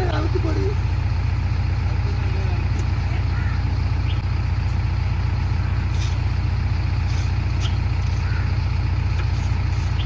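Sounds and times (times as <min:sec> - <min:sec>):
diesel engine throbbing: 0:00.0 - 0:10.0.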